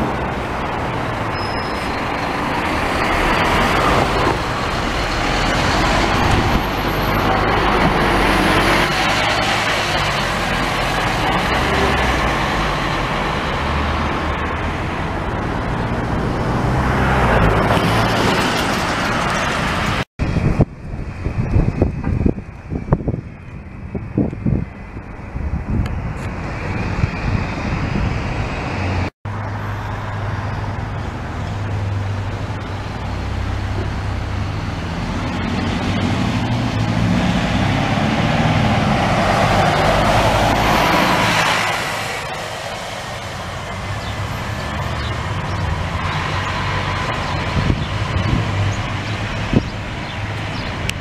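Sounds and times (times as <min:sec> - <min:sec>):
bus passing: 0:00.0 - 0:51.0
traffic: 0:00.0 - 0:51.0.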